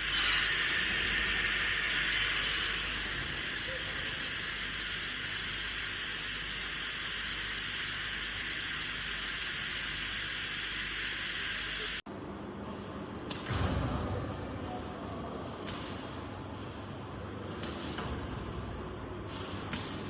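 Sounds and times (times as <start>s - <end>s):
workshop machinery hissing: 0.0s - 12.0s, 12.9s - 20.0s.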